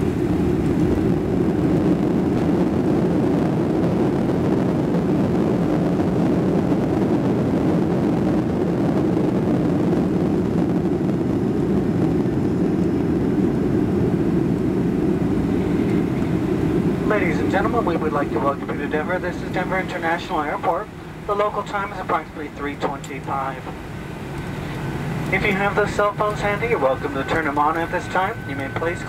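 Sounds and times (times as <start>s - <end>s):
jet engines rumbling in cabin: 0.0s - 29.0s
rushing air: 0.0s - 29.0s.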